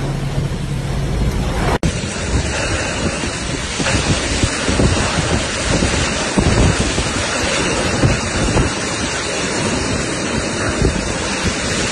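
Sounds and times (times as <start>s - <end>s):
wind buffeting microphone: 1.0s - 11.9s
loud rushing water: 1.6s - 11.9s.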